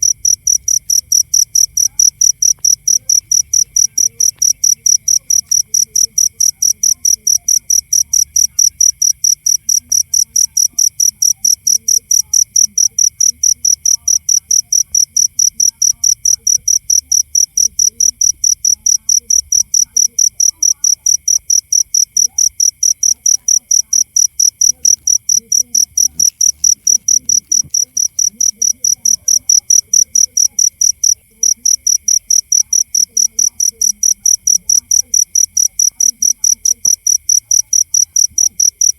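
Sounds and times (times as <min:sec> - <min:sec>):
cricket chirping: 0:00.0 - 0:38.9
faint insect trill: 0:00.0 - 0:38.9.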